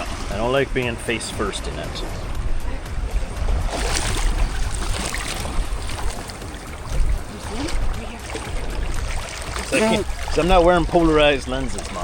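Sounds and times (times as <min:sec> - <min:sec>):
ocean surf washing: 0:00.0 - 0:12.0
wind rumbling on microphone: 0:01.8 - 0:12.0.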